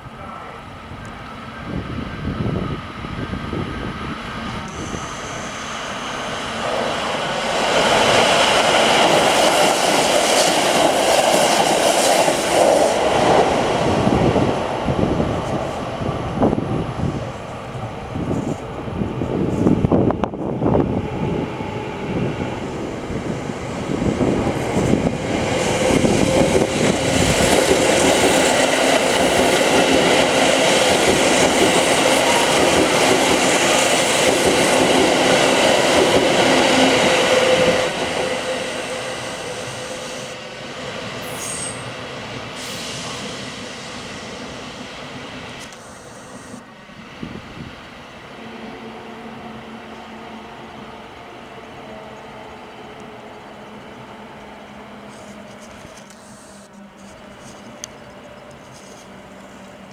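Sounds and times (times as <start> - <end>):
electric train humming: 0.0 - 59.9.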